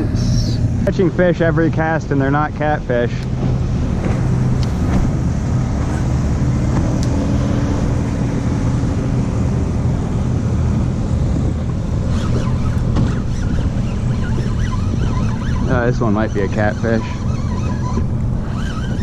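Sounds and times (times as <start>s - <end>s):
boat engine humming: 0.0s - 19.0s
wind rumble on microphone: 0.0s - 19.0s.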